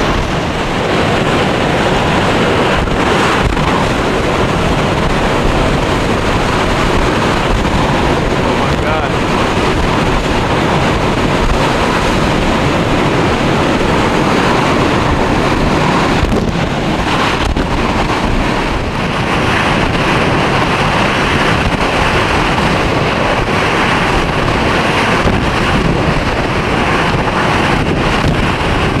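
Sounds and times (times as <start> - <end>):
strong wind buffeting microphone: 0.0 - 29.0
wind-driven rain: 0.0 - 29.0.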